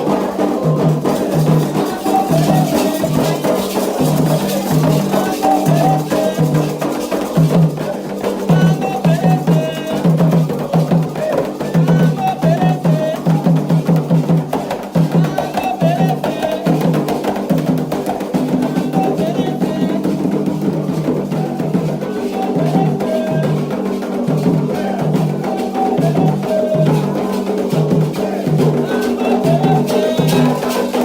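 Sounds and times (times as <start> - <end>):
drums beating rhythm: 0.0 - 31.0
voices singing: 0.0 - 31.0.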